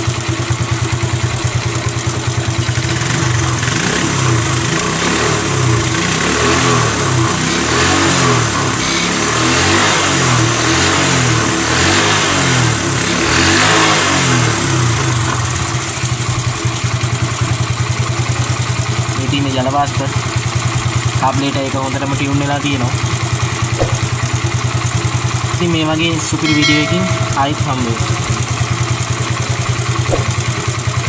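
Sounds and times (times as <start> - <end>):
motorcycle engine idling: 0.0 - 11.6, 14.5 - 31.0.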